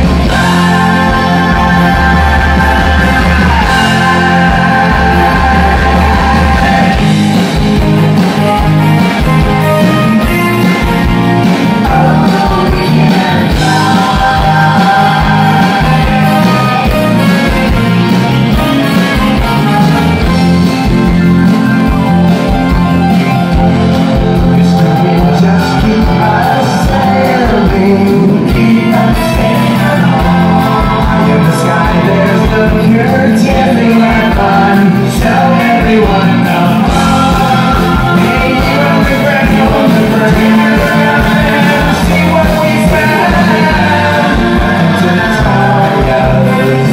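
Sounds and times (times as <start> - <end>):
vocals singing: 0.0 - 20.6, 23.7 - 46.9
drum kit beat: 0.0 - 46.9
electric guitars: 0.0 - 46.9
keyboards: 0.0 - 46.9.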